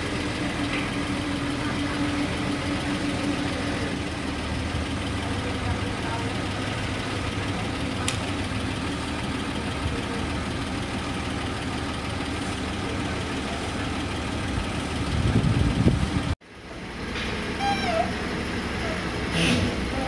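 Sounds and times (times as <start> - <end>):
drilling rig engine running: 0.0 - 20.0.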